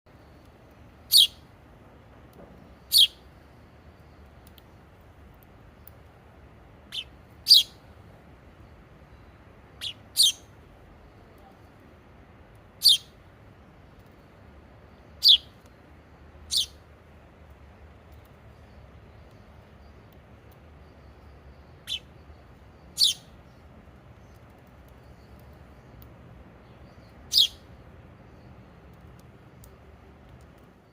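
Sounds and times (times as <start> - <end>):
faint steady hiss: 0.1 - 30.9
small bird chirping: 0.2 - 1.5, 2.8 - 6.1, 6.8 - 16.9, 17.5 - 30.9.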